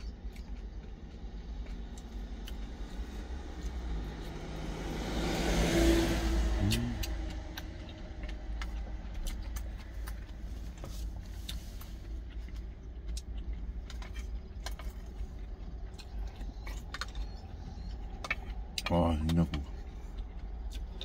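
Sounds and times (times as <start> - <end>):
chewing: 0.0 - 21.0
low vehicle rumble: 0.0 - 21.0.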